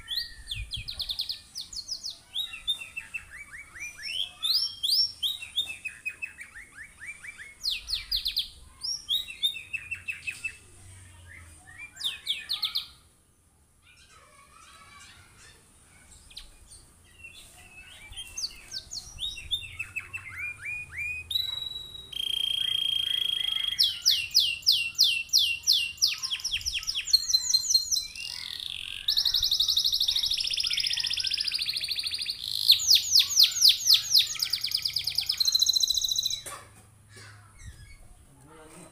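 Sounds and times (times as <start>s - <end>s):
canary singing: 0.0s - 13.1s, 13.9s - 36.5s.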